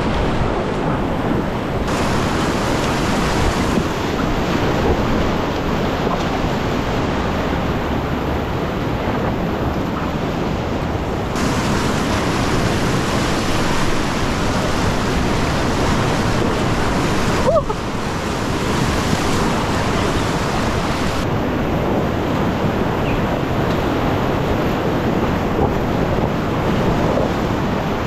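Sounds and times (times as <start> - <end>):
whitewater rapids rushing: 0.0 - 28.0.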